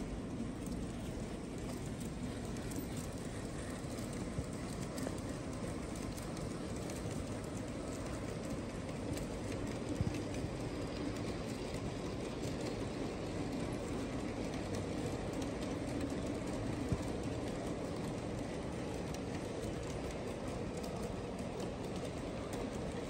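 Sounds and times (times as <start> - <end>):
faint hum: 0.0 - 23.0
model train wheels rumbling: 0.0 - 23.0.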